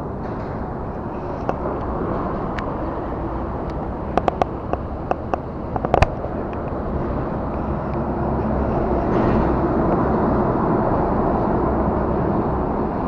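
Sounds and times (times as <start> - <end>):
heavy traffic rumbling on bridge: 0.0 - 13.0.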